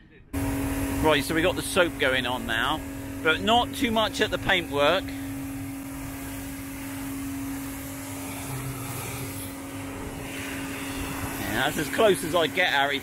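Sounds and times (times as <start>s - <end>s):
pressure washer hum: 0.4s - 13.0s
water spray hissing on car: 0.4s - 13.0s.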